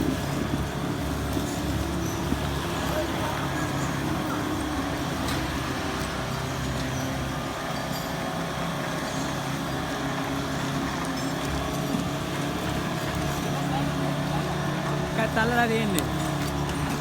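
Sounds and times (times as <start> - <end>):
heavy vehicle engine humming: 0.0 - 17.0.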